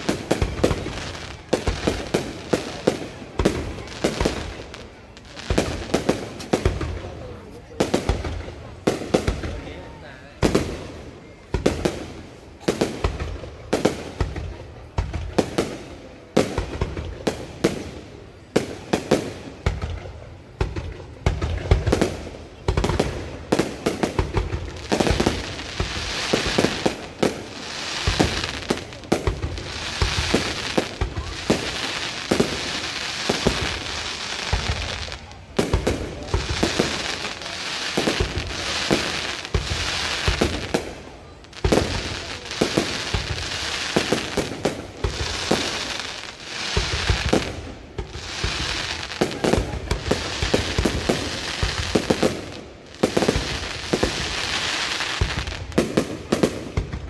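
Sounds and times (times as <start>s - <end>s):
crackling firework shells: 0.0s - 7.1s, 10.4s - 57.0s
fireworks bangs: 0.0s - 57.0s.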